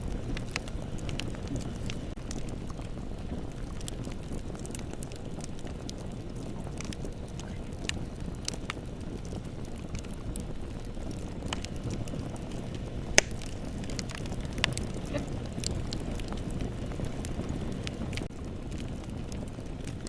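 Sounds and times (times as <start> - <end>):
bonfire rumbling: 0.0 - 20.0
burning wood crackling and popping: 0.0 - 20.0.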